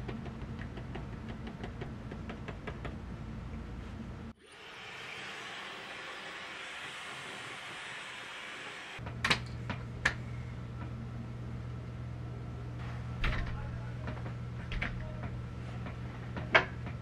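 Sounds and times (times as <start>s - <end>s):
steady low hum: 0.0s - 4.4s, 6.1s - 17.0s.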